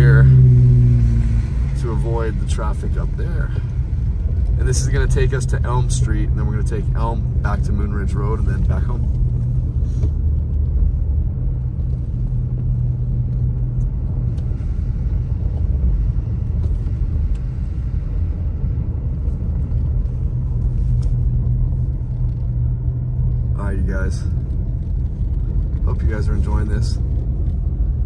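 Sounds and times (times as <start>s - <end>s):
car engine and tyre drone: 0.0s - 28.0s.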